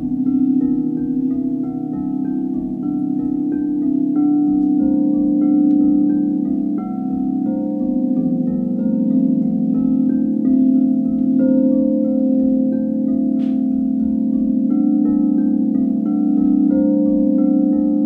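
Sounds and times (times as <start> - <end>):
singing bowls ringing: 0.0 - 18.0.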